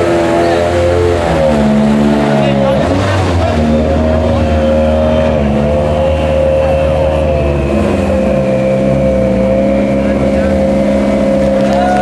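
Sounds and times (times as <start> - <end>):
vehicle engines running at low revs: 0.0 - 12.0.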